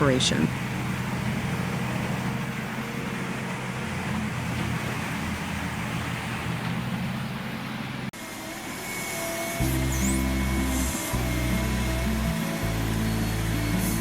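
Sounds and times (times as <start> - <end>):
wood chipper machine hum: 0.0 - 14.0.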